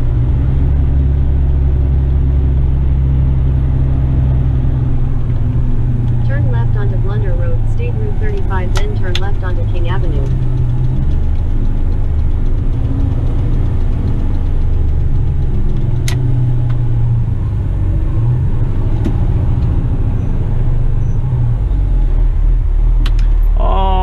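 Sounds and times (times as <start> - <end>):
truck diesel engine rumbling: 0.0 - 24.0.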